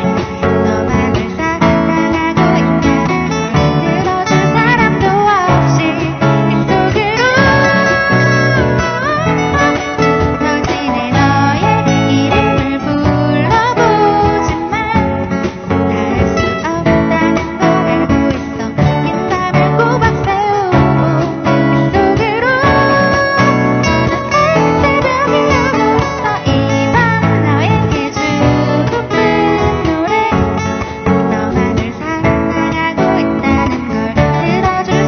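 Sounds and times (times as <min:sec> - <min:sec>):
acoustic guitar strumming: 0:00.0 - 0:35.0
sliding melody line: 0:00.0 - 0:35.0.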